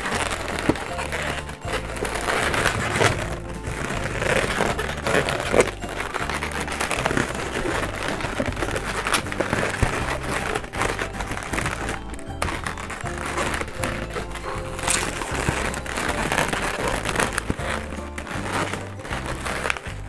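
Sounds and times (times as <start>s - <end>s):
background music with bass line: 0.0s - 20.0s
balloons rubbing and squeaking: 0.0s - 20.0s.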